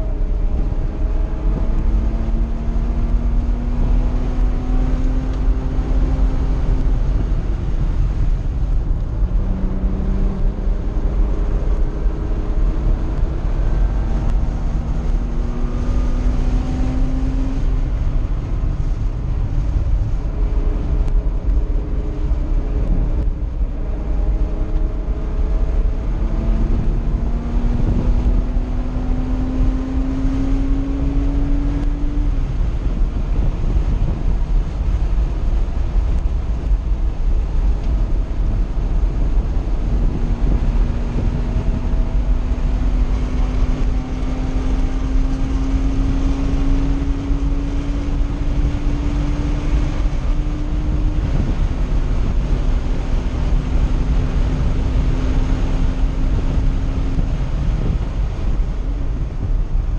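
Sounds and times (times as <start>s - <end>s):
car engine under load: 0.0s - 59.9s
wind noise in cabin: 0.0s - 59.9s.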